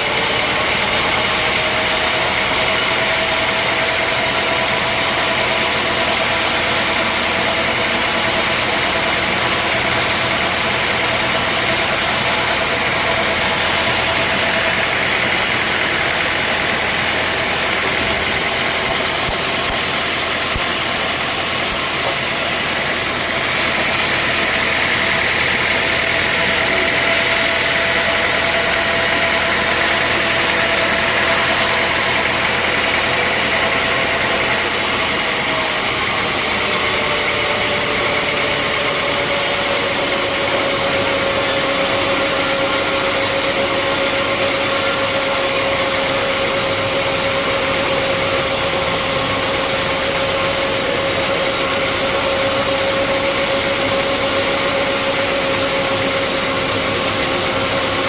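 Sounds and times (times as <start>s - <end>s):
sawmill machinery whine: 0.0s - 58.0s.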